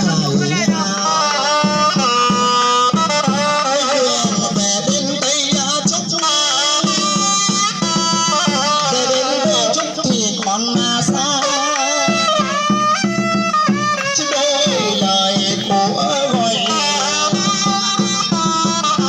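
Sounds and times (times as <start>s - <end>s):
drum beats: 0.0s - 19.0s.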